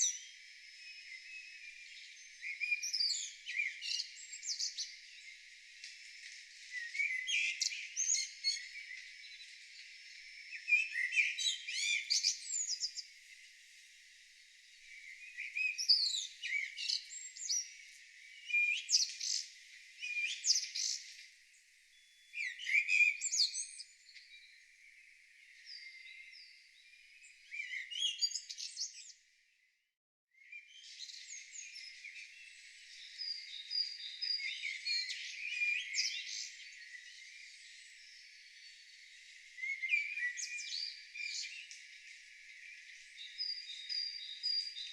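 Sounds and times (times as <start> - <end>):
wild birds singing: 0.0 - 29.8, 30.4 - 44.9.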